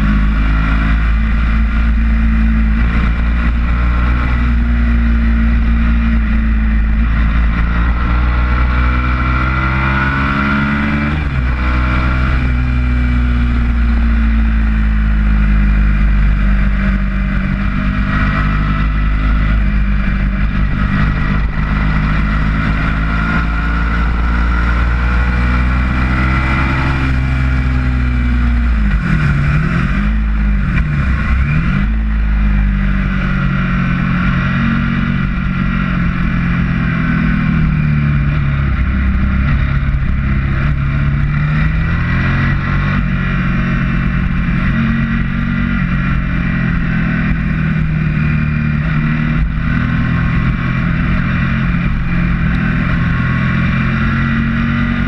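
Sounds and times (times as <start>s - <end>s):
motorcycle engine at high revs: 0.0s - 55.0s
wind rushing over microphone: 0.0s - 55.0s.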